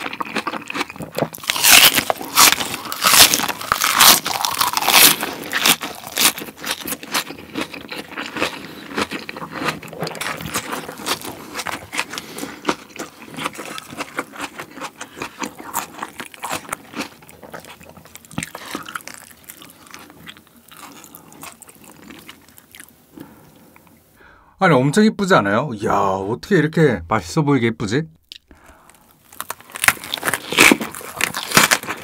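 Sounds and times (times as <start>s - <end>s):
crunching raw cabbage leaf: 0.0s - 22.9s, 28.3s - 32.0s.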